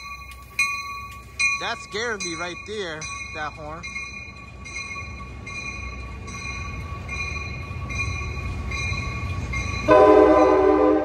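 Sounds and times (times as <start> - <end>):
locomotive bell ringing: 0.0 - 11.0
train rumbling: 0.0 - 11.0.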